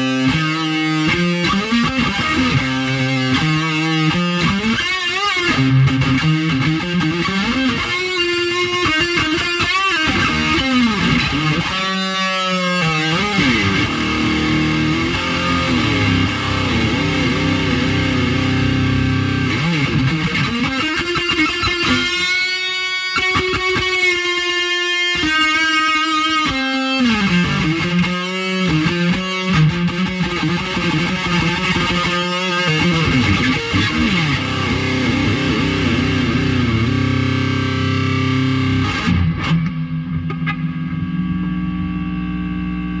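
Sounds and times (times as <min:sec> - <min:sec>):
electric guitar lead riff: 0:00.0 - 0:43.0.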